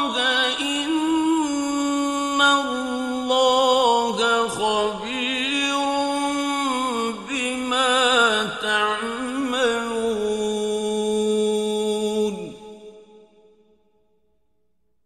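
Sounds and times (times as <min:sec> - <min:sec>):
man reciting melodically: 0:00.0 - 0:13.1.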